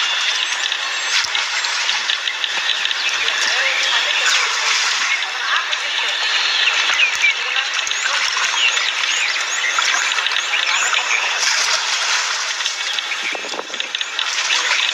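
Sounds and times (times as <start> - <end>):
indistinct voices: 0.0 - 14.9
noisy outdoor background: 0.0 - 14.9.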